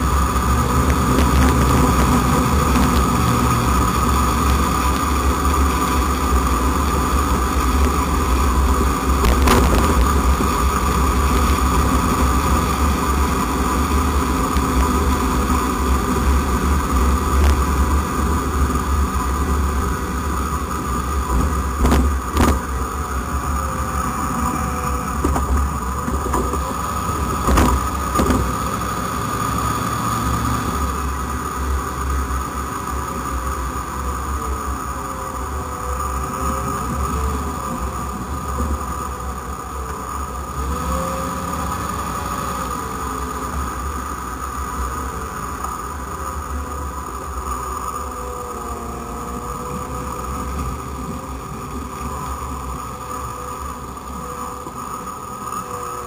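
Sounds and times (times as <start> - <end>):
road and wind rumble: 0.0 - 56.0
steady whine: 0.0 - 56.0.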